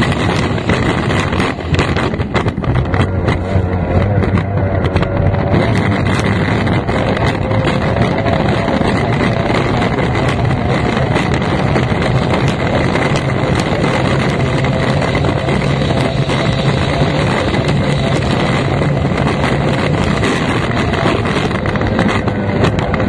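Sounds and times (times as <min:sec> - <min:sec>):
racing outboard engine running: 0:00.0 - 0:23.0
wind rushing past: 0:00.0 - 0:23.0.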